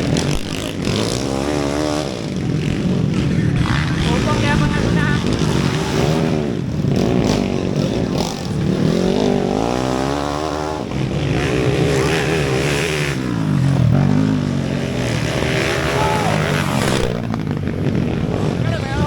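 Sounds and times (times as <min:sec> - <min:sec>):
motorcycle engines racing: 0:00.0 - 0:19.0.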